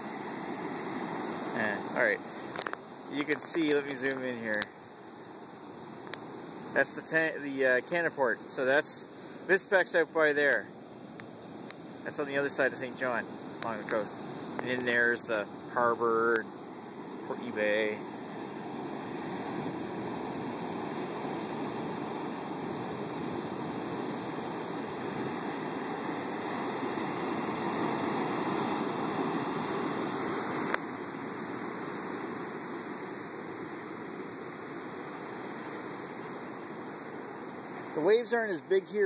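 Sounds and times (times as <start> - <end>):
surf washing up a beach: 0.0 - 39.0.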